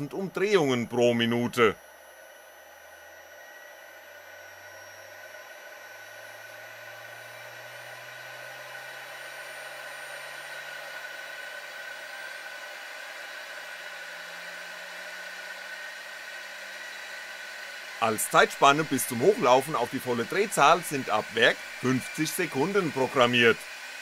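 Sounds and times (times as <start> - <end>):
spindle motor whirring: 0.0 - 24.0.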